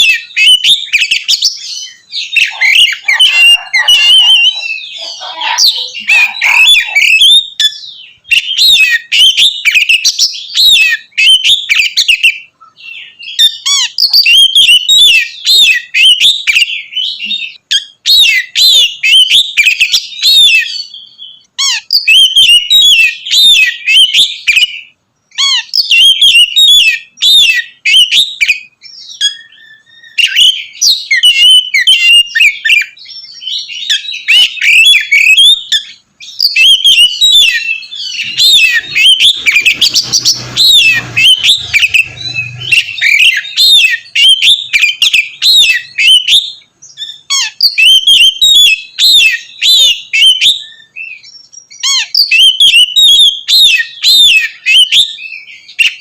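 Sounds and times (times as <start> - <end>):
magpie-robin singing: 0.0 - 56.0.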